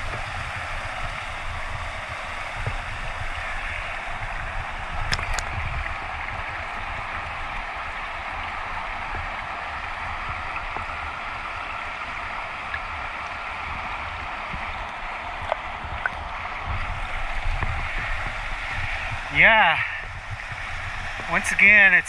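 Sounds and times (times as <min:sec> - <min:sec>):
muffled underwater water rush: 0:00.0 - 0:22.0.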